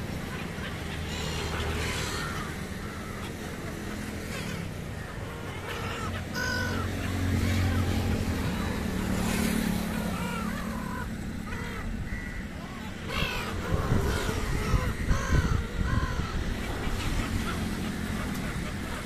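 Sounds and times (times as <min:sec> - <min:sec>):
gulls squawking: 0:00.0 - 0:19.0
low rumble of road traffic: 0:00.0 - 0:19.0.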